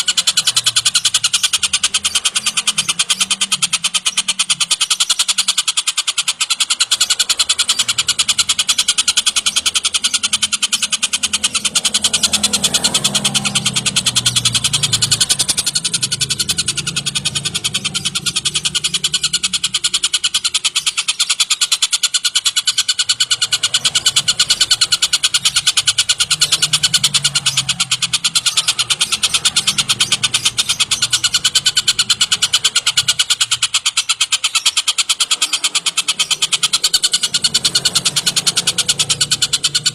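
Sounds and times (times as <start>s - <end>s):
kingfisher chattering call: 0.0s - 39.9s.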